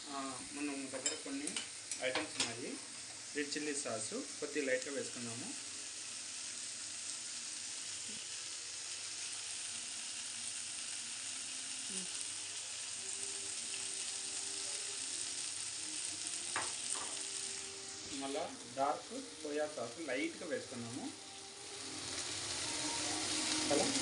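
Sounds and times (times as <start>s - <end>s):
chicken frying sizzle: 0.0s - 24.0s.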